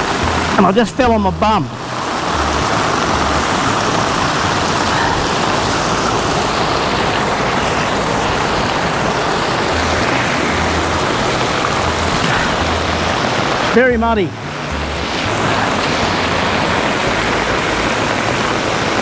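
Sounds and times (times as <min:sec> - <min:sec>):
floodwater rushing down a creek: 0:00.0 - 0:19.0.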